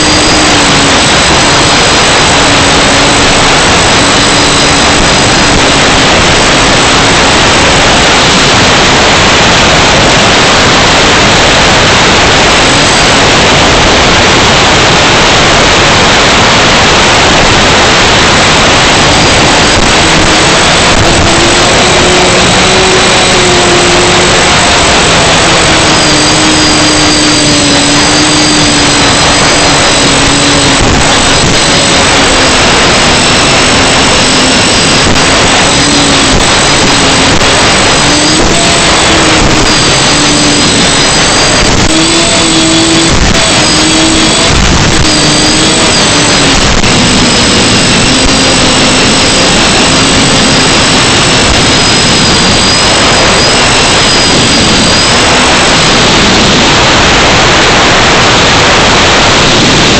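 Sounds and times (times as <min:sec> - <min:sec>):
drone motors buzzing: 0:00.0 - 0:59.9
loud steady hiss: 0:00.0 - 0:59.9.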